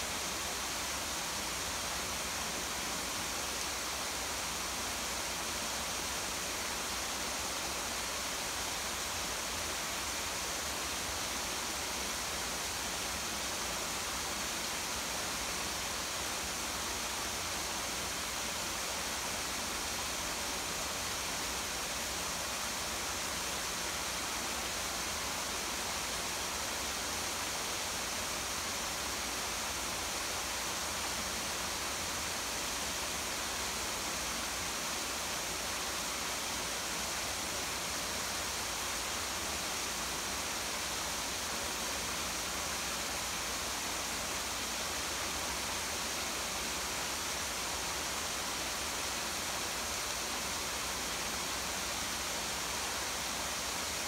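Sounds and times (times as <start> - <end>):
waterfall splashing over rocks: 0.0 - 54.0.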